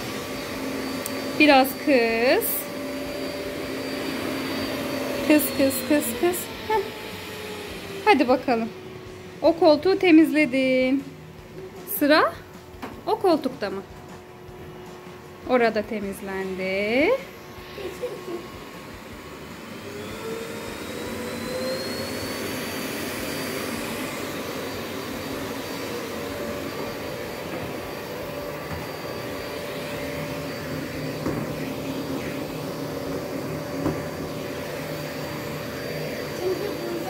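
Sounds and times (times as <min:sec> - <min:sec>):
vacuum cleaner motor whining: 0:00.0 - 0:37.0.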